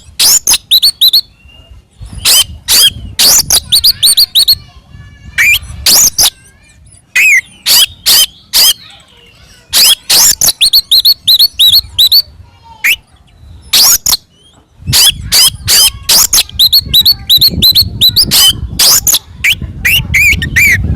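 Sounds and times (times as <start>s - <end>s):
songbird singing harsh notes: 0.0s - 20.9s.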